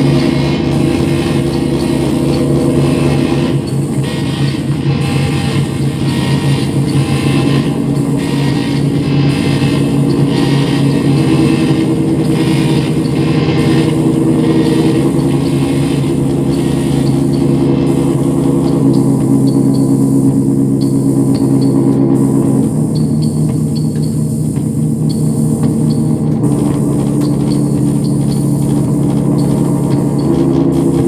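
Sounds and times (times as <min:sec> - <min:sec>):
electronic drone music: 0:00.0 - 0:31.0.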